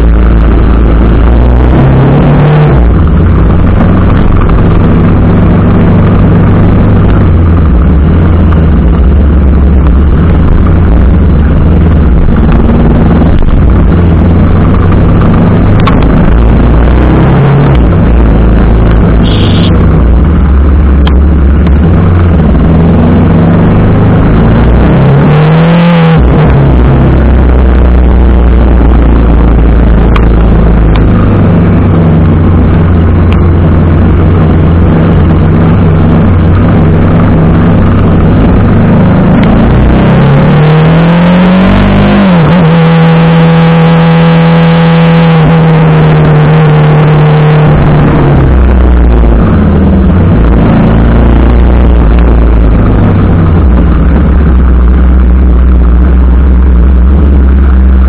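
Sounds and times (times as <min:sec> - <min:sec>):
heavy wind noise: 0:00.0 - 0:58.0
motorcycle engine revving: 0:00.0 - 0:58.0.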